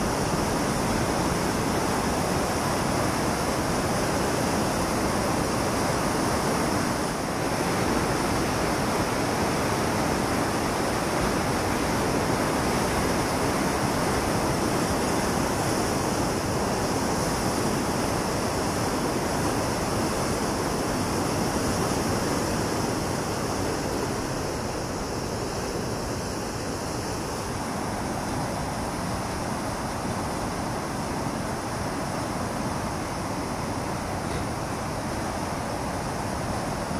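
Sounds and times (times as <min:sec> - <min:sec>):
water rushing over weir: 0:00.0 - 0:36.9.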